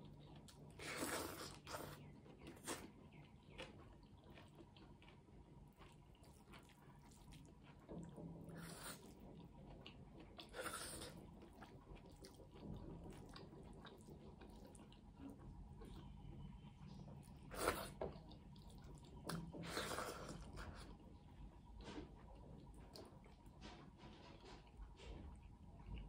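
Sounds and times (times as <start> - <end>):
chewing food: 0.0 - 26.0.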